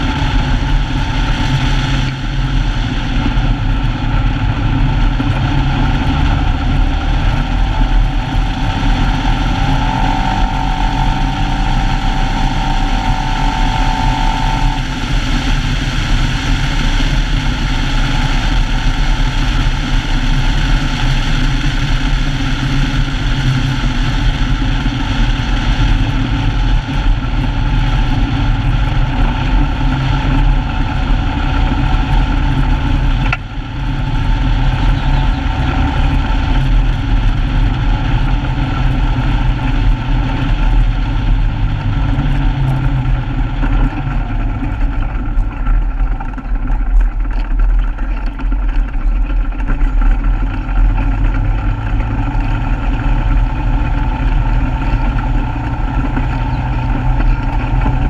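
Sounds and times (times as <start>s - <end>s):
high-pitched whine: 0.0s - 58.0s
off-road vehicle engine running: 0.0s - 58.0s.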